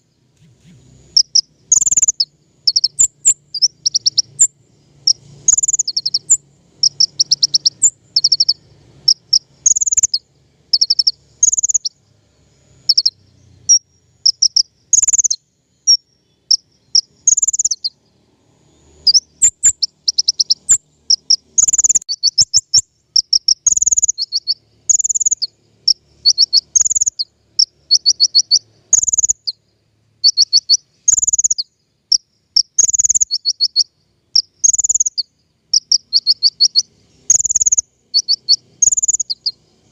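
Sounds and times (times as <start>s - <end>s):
songbird trilling: 0.0s - 12.0s, 12.6s - 39.9s.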